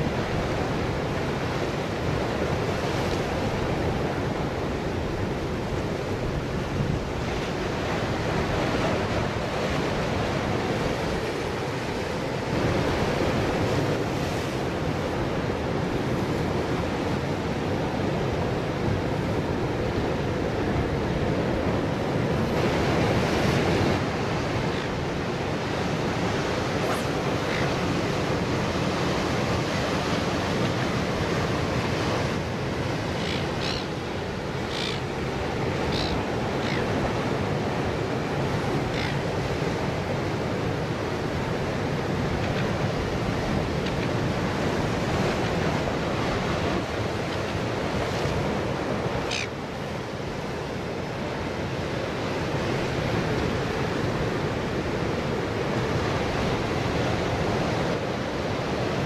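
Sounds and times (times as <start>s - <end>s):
ocean surf breaking on rocks: 0.0s - 59.0s.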